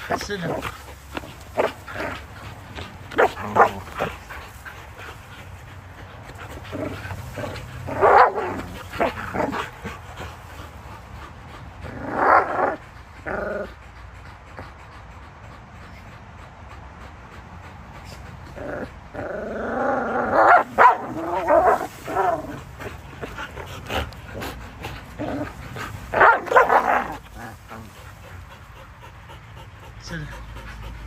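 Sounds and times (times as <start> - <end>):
dogs vocalizing in bursts: 0.0 - 19.2, 20.1 - 31.0.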